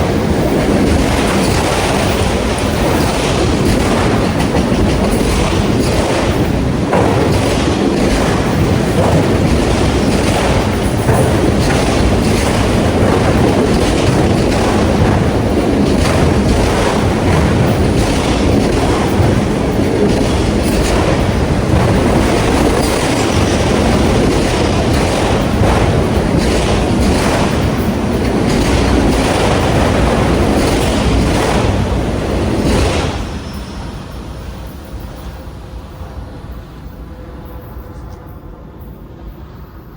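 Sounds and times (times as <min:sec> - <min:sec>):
train wheels clacking over rail joints: 0:00.0 - 0:39.4.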